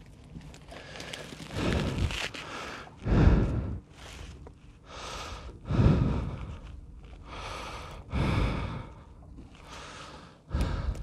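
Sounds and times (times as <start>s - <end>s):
man breathing heavily: 0.7s - 11.0s.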